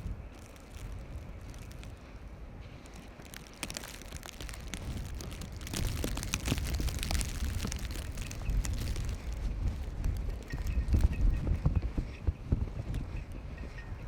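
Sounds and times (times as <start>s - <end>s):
footsteps crunching in snow: 0.0s - 13.9s
wind buffeting microphone: 0.0s - 14.0s.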